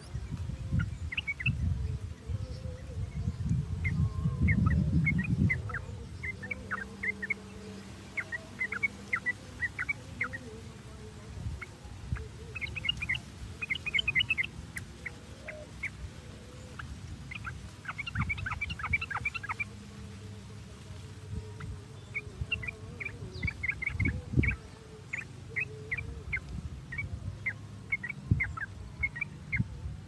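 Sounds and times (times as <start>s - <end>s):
bulbuls chattering: 0.0s - 30.0s.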